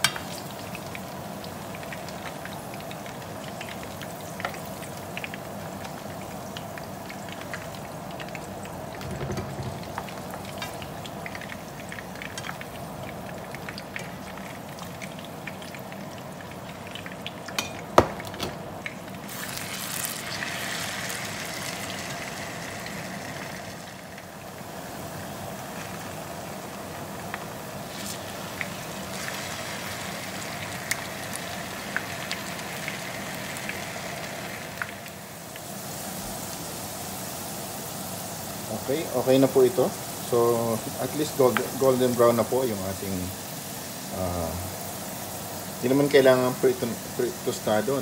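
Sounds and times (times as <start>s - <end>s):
vegetables sizzling in oil: 0.0s - 48.0s.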